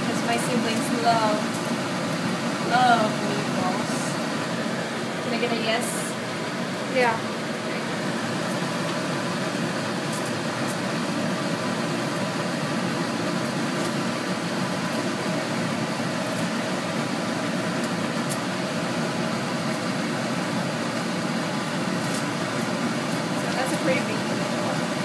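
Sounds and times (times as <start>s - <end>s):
fan-like whooshing hum: 0.0s - 25.0s.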